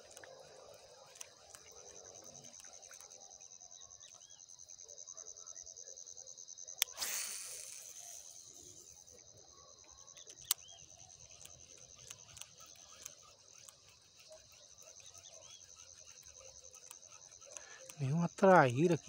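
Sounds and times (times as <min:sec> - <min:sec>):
faint ticks: 0:00.0 - 0:04.4, 0:06.7 - 0:19.0
crickets trilling: 0:00.0 - 0:19.0.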